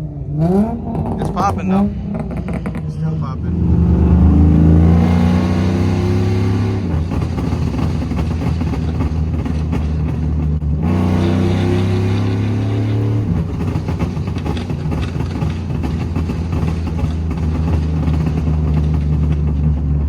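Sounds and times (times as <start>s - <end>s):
engine revving hard: 0.0s - 20.0s.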